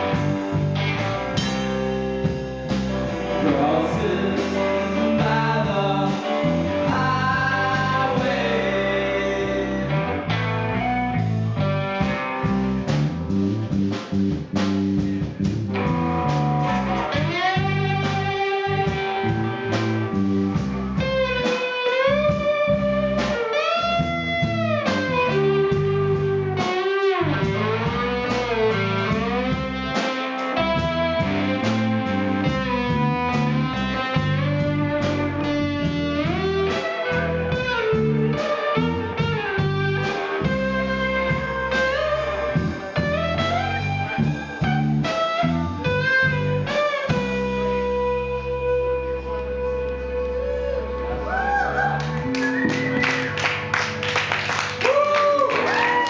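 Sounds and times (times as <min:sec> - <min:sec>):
bass guitar: 0:00.0 - 0:56.0
bending guitar lead notes: 0:00.0 - 0:56.0
drum kit: 0:00.0 - 0:56.0
electric guitar: 0:00.0 - 0:56.0.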